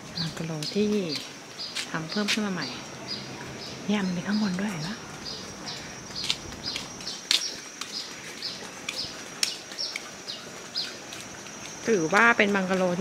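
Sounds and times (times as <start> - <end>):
bird chirping: 0.2 - 12.2.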